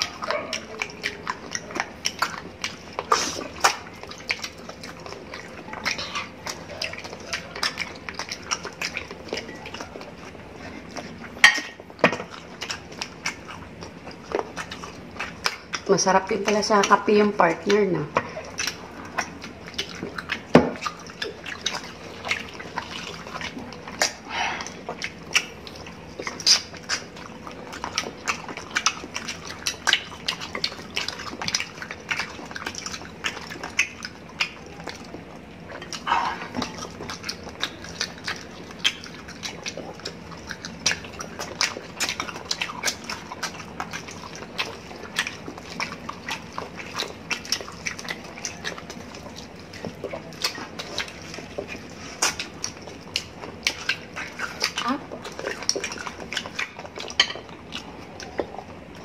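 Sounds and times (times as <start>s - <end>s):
wet chewing and lip smacks: 0.0s - 59.0s.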